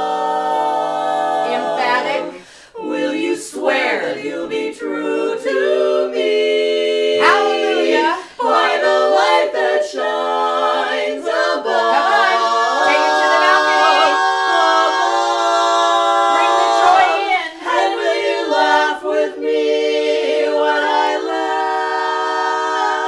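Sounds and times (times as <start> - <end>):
women singing in harmony: 0.0 - 23.0.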